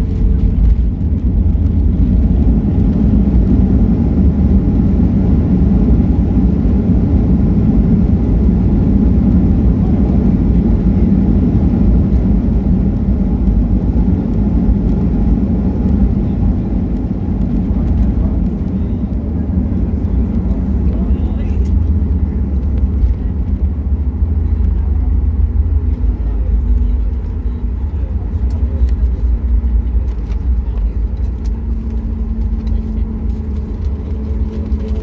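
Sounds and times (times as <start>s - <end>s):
airliner cabin engine noise: 0.0s - 35.0s.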